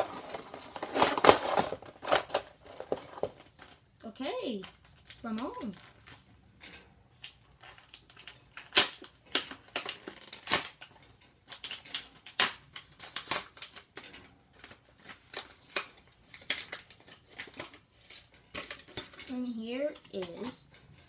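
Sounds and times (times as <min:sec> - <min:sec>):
plastic packaging crackling: 0:00.0 - 0:03.9, 0:04.5 - 0:06.3, 0:07.2 - 0:21.0.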